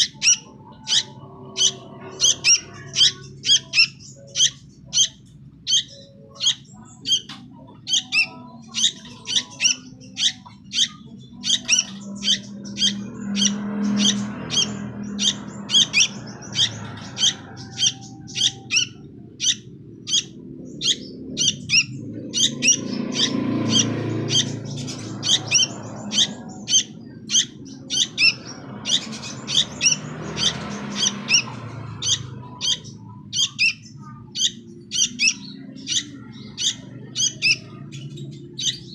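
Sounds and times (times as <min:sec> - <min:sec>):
bird giving high-pitched calls: 0:00.0 - 0:38.9.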